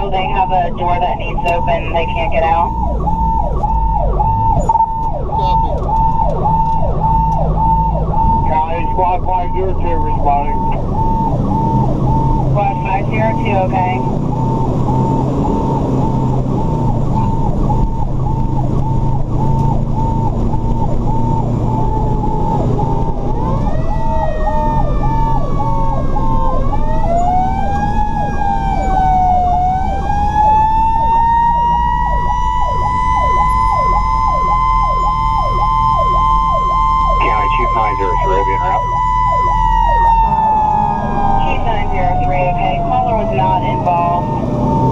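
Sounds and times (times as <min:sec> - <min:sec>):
fast yelping siren: 0:00.0 - 0:44.9
siren wailing: 0:00.0 - 0:44.9
truck engine droning: 0:00.0 - 0:44.9.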